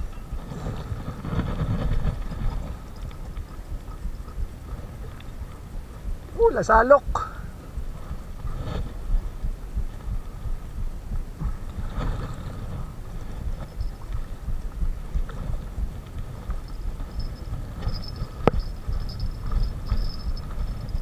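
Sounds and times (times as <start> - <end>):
wind rumble: 0.0 - 21.0.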